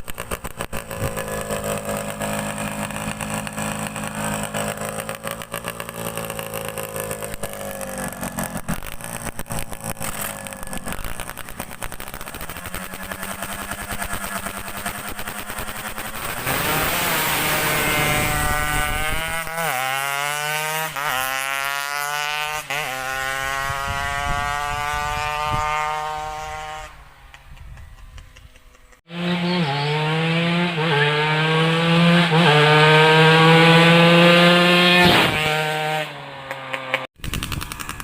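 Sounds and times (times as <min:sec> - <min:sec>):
two-stroke motorcycle accelerating through gears: 0:00.0 - 0:38.0.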